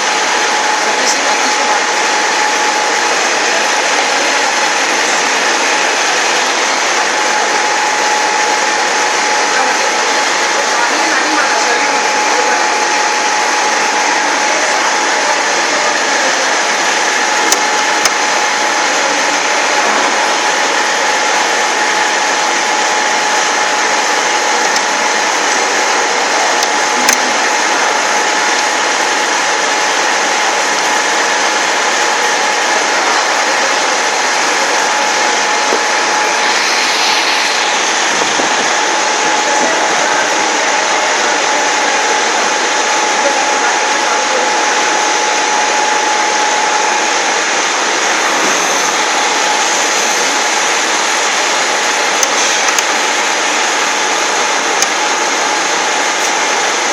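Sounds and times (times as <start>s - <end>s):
grinder motor whining: 0.0s - 56.9s.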